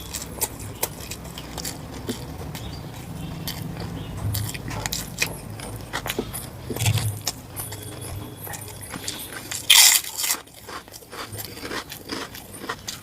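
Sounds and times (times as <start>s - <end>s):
wet chewing and lip smacks: 0.0s - 13.0s.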